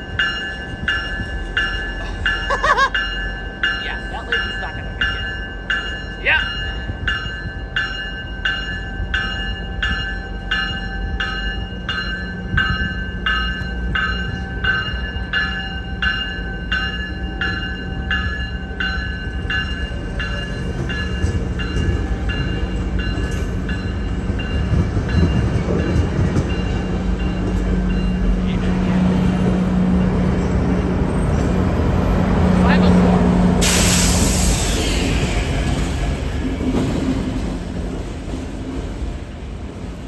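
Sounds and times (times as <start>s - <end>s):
station bell ringing: 0.0s - 38.4s
diesel train hum and rumble: 0.0s - 40.0s.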